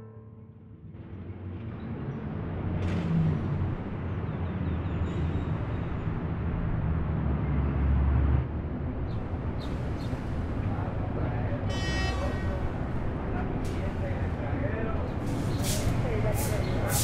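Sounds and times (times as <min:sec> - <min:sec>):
road traffic rumble: 0:00.2 - 0:17.0.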